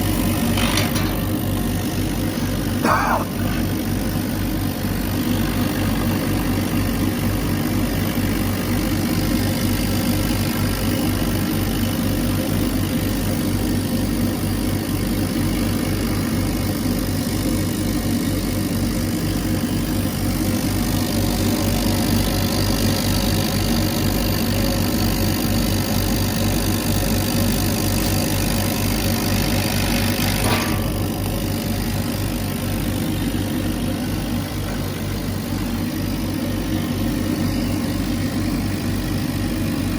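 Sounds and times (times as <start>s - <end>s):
laser cutter hum and throb: 0.0s - 39.9s.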